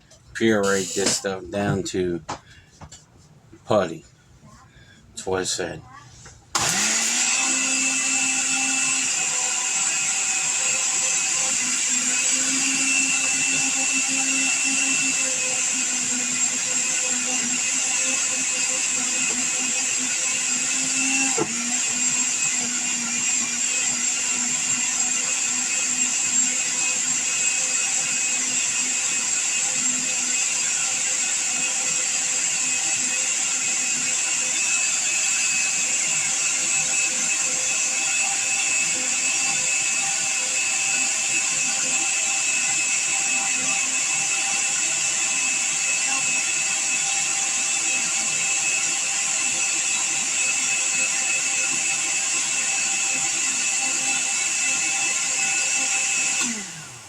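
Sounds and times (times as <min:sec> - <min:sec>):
electric blender running: 0:00.6 - 0:01.3, 0:06.5 - 0:57.0.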